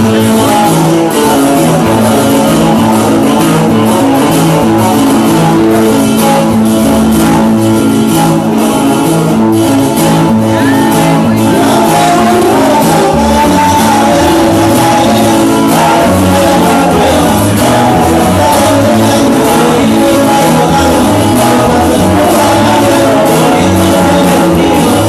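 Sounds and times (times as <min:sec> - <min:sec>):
loud band music with guitar: 0:00.0 - 0:25.0.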